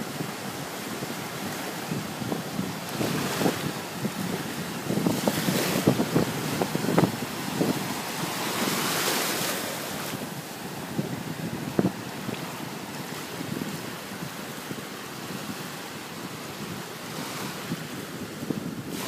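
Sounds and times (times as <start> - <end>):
small waves breaking: 0.0 - 19.0
wind buffeting microphone: 0.0 - 19.0.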